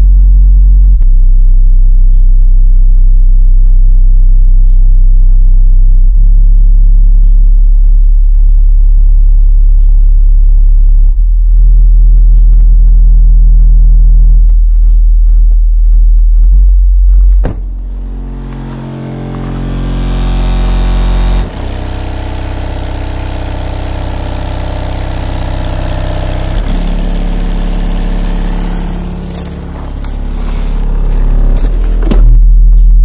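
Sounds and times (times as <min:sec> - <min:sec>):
deep bass from car subwoofer: 0:00.0 - 0:33.0.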